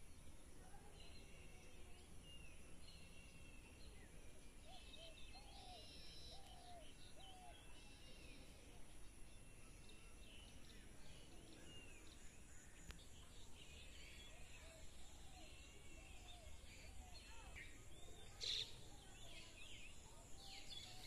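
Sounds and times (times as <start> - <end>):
faint outdoor ambience: 0.0 - 21.0.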